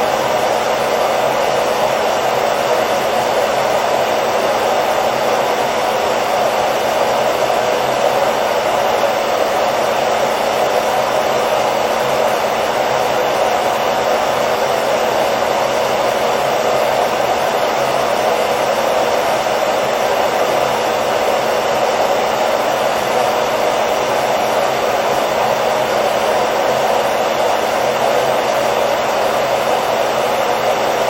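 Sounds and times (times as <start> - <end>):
hairdryer rushing air: 0.0 - 31.0.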